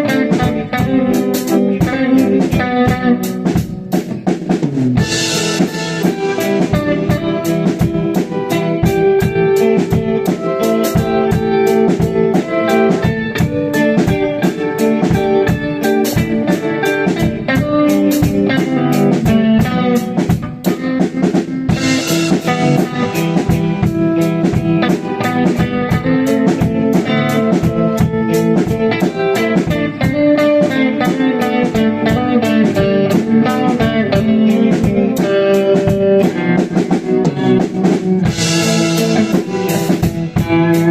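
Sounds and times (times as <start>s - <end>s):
bass guitar: 0.0s - 40.9s
drum kit fast beat: 0.0s - 40.9s
electric guitar: 0.0s - 40.9s.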